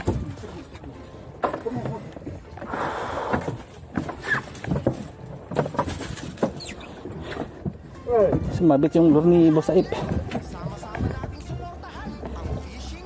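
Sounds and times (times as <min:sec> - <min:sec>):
knocks and scrapes on boat deck: 0:00.0 - 0:13.0.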